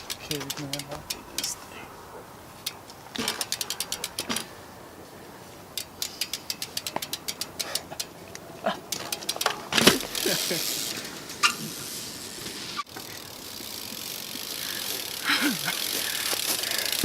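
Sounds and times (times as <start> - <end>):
bicycle freewheel ratchet clicking: 0.0 - 1.7, 2.6 - 4.6, 5.6 - 17.0.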